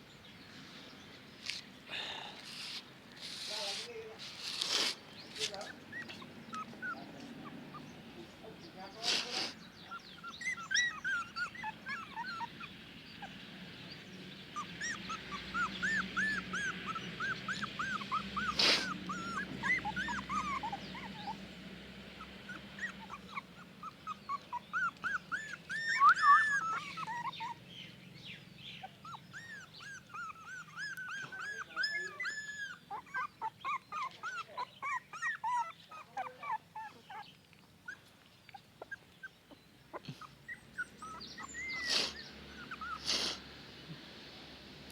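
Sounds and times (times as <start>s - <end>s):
puppies whimpering and squeaking: 2.5s - 43.4s.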